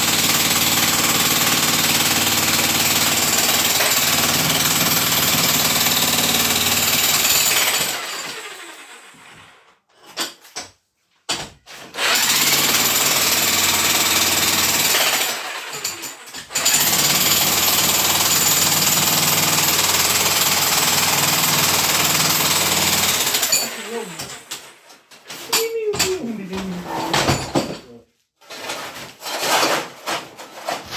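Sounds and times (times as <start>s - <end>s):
demolition hammer chiselling masonry: 0.0s - 9.3s, 10.0s - 26.3s.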